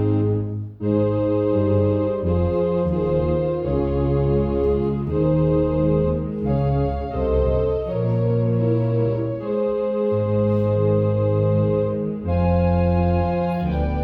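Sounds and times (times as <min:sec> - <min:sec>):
organ playing slow chords: 0:00.0 - 0:14.0.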